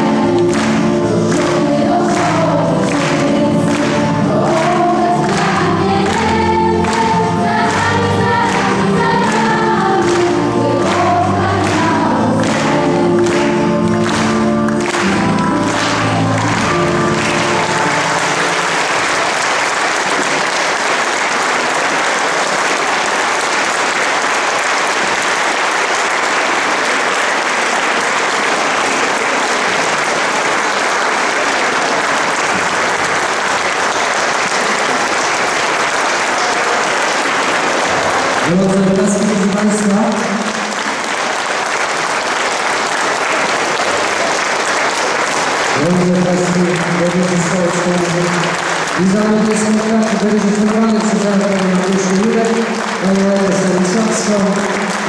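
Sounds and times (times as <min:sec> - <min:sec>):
choir singing with music: 0:00.0 - 0:45.9
audience applause: 0:00.0 - 0:55.0.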